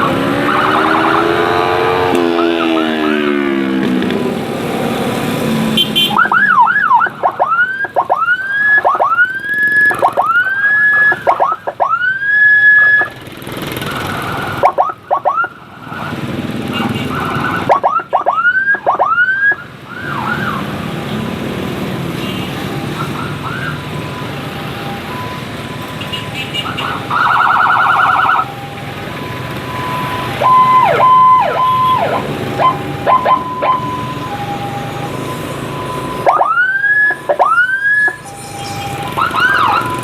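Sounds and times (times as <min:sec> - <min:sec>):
electronic siren whooping: 0:00.0 - 0:03.8, 0:06.1 - 0:16.3, 0:17.0 - 0:20.7, 0:22.7 - 0:40.0
road noise: 0:00.0 - 0:40.0.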